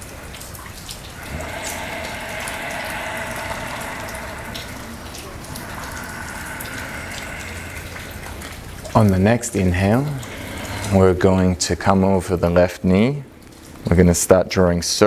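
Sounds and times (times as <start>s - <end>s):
rain hissing: 0.0s - 12.4s
raindrop ticks: 0.0s - 14.2s.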